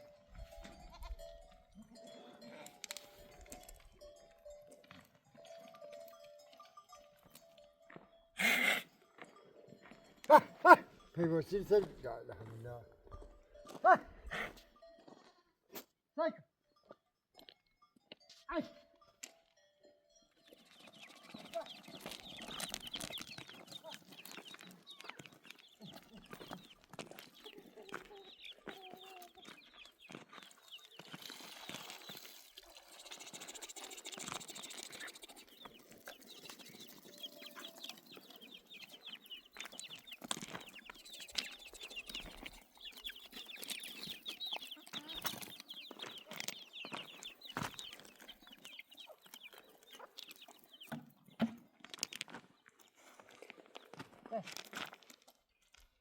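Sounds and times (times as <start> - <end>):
birds chirping and clucking: 0.0 - 15.8, 18.1 - 54.2.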